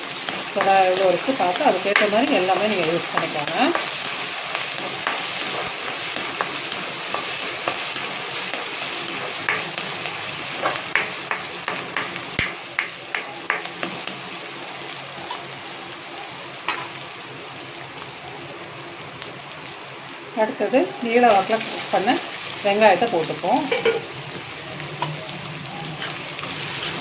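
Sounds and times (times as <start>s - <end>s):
spices sizzling in hot oil: 0.0s - 27.0s.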